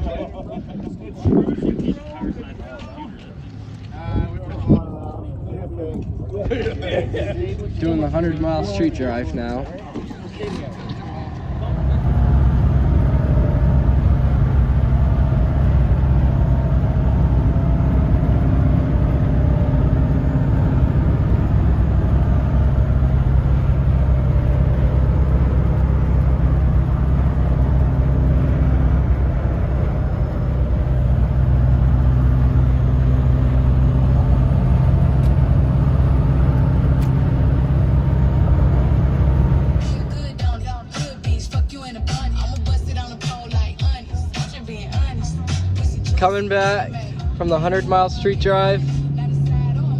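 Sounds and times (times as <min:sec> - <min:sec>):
pickup truck engine and road drone: 0:00.0 - 0:49.9.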